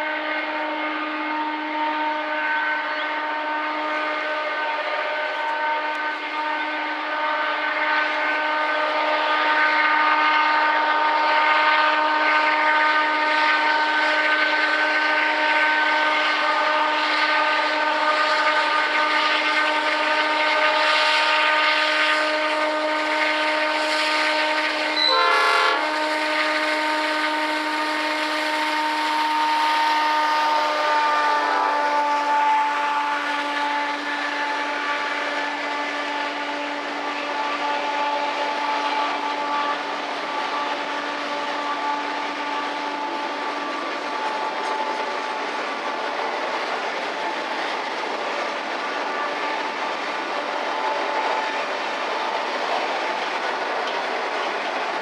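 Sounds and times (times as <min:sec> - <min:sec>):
diesel locomotives working hard: 0:00.0 - 0:55.0.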